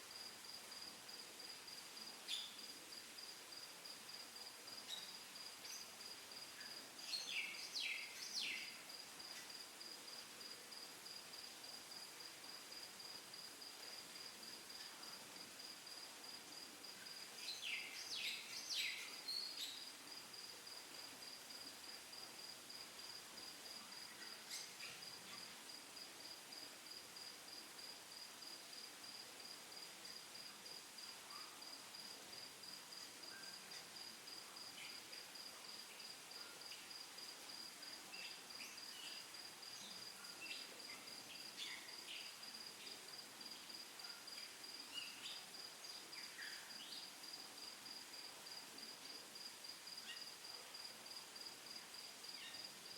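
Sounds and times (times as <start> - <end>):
faint insect trill: 0.0 - 52.9.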